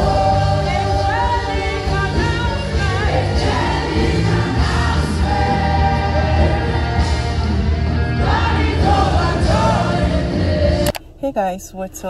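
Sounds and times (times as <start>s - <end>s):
gospel choir singing with band: 0.0s - 11.0s.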